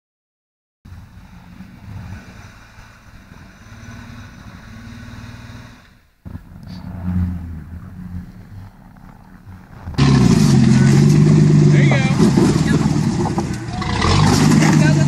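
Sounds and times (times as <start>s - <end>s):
engine revving: 1.0s - 15.0s.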